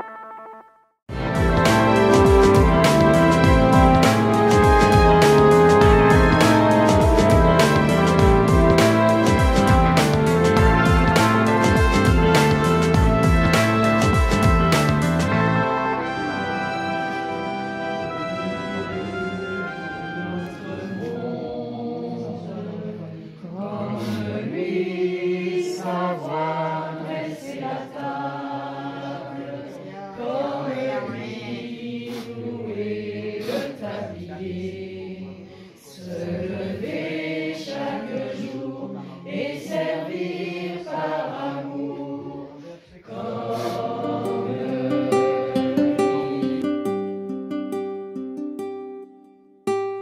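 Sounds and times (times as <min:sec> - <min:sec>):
choir singing: 0:01.2 - 0:12.7, 0:15.6 - 0:46.8.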